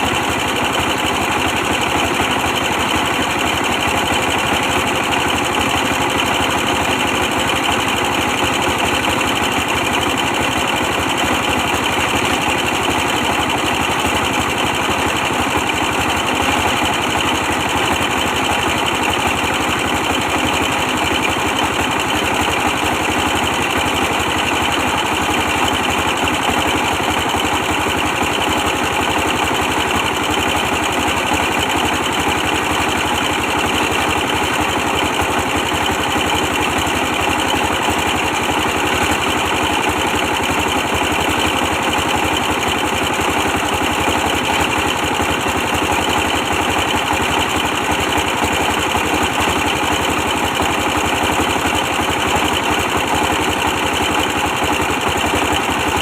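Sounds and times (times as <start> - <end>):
diesel engine running steadily: 0.0 - 56.0.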